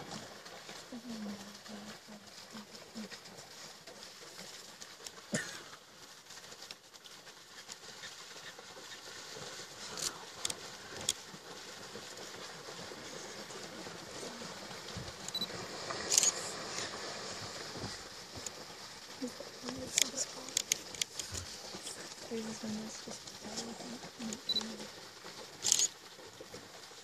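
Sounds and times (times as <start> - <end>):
splashing in shallow water: 0.0 - 27.0.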